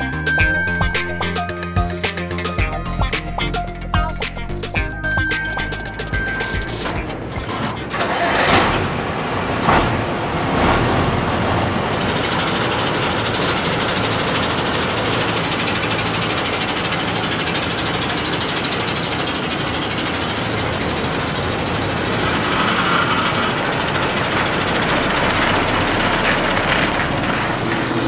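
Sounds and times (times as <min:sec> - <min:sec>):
diesel truck engine: 0:00.0 - 0:28.0.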